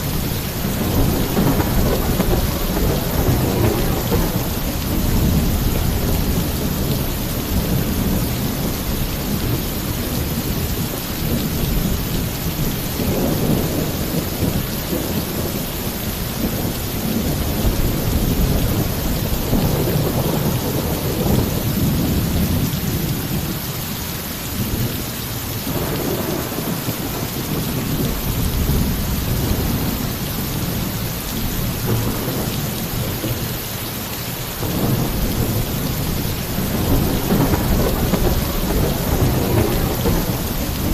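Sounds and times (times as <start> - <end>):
rolling thunder: 0.0 - 23.7, 25.6 - 33.6, 34.4 - 40.9
heavy rain on a roof: 0.0 - 40.9.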